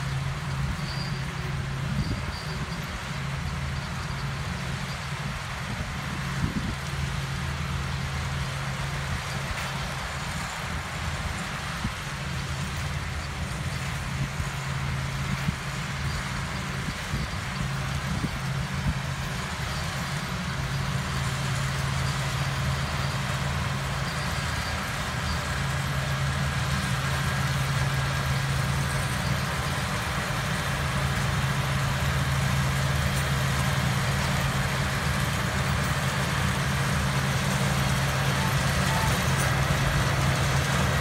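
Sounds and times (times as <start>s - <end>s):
harvester engine running: 0.0s - 41.0s
working machinery noise: 0.0s - 41.0s.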